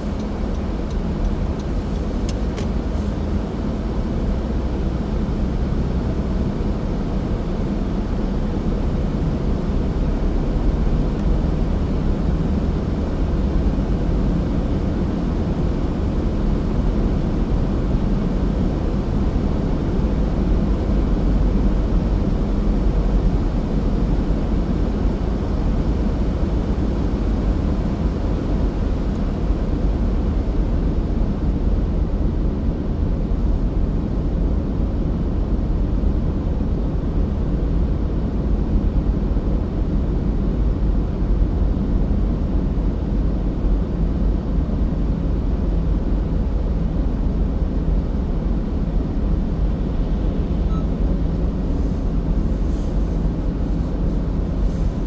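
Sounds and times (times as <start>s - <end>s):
car tyres and engine rumbling: 0.0s - 32.0s, 32.7s - 55.0s.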